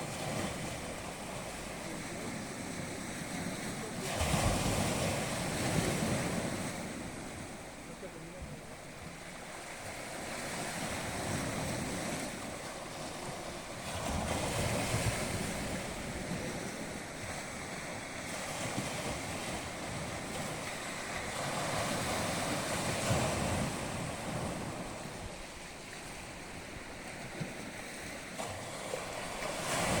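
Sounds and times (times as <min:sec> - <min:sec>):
sea waves washing ashore: 0:00.0 - 0:30.0.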